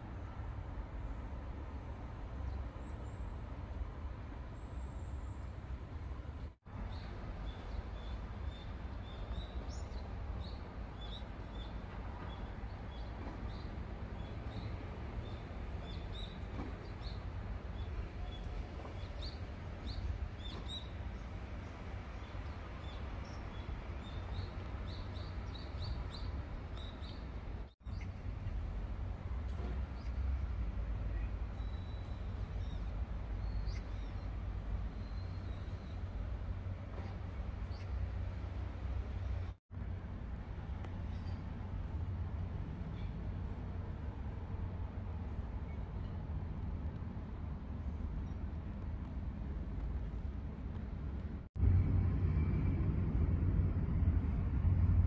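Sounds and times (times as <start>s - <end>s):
low city rumble: 0.0s - 55.0s.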